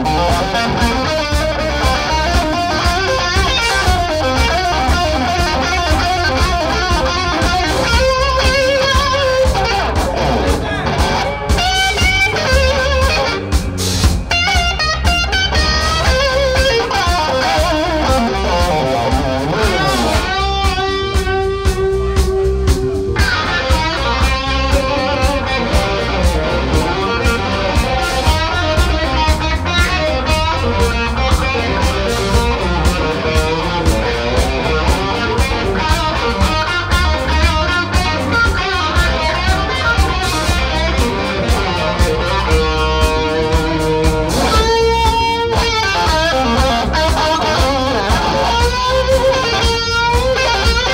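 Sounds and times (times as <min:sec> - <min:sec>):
bass guitar: 0:00.0 - 0:50.9
drums: 0:00.0 - 0:50.9
electric guitars: 0:00.0 - 0:50.9
lead guitar bent notes with vibrato: 0:00.0 - 0:50.9.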